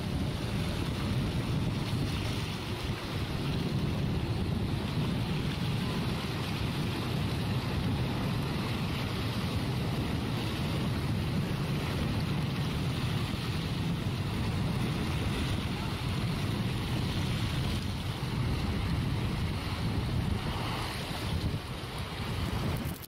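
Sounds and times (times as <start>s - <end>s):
sea surf rushing: 0.0s - 23.0s
wind buffeting microphone: 0.0s - 23.0s.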